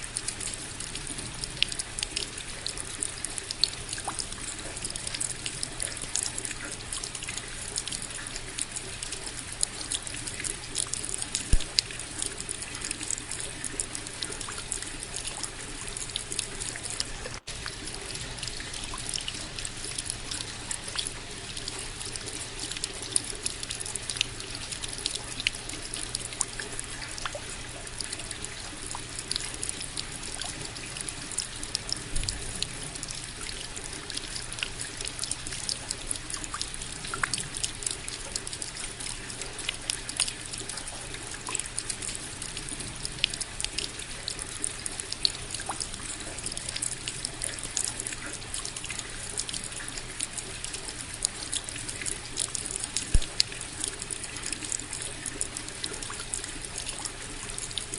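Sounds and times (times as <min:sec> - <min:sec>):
steady rain with ticking drops: 0:00.0 - 0:57.9.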